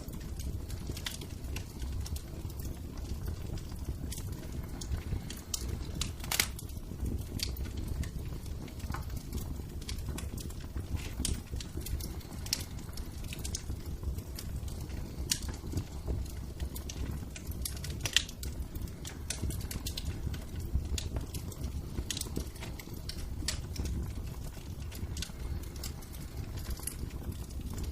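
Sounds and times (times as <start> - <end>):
sharp pops from fire: 0.0 - 27.9
wood fire crackling: 0.0 - 27.9.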